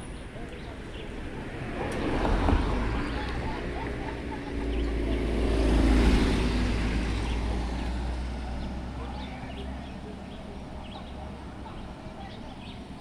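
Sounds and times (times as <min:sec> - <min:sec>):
vehicle driving past: 0:01.3 - 0:11.8.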